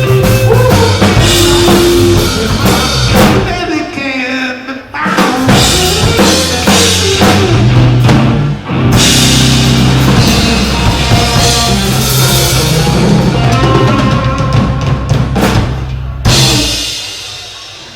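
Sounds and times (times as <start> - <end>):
drum kit: 0.0 - 4.0, 5.0 - 17.9
live rock band playing: 0.0 - 4.2, 4.8 - 17.9.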